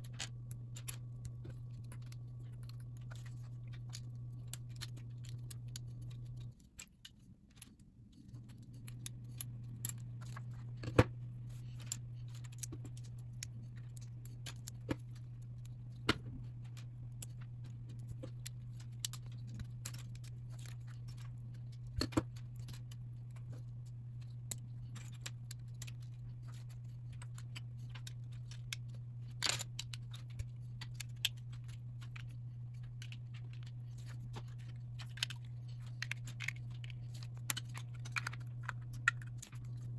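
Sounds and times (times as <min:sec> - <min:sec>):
loose plastic pieces rattling: 0:00.0 - 0:39.9
steady low hum: 0:00.0 - 0:39.9.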